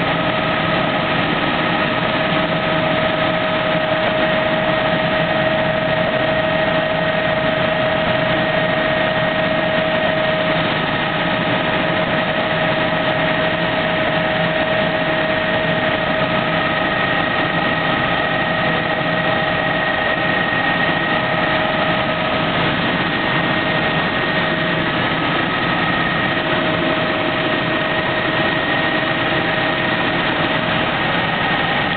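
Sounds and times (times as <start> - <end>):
helicopter engine and rotor noise: 0.0 - 31.9.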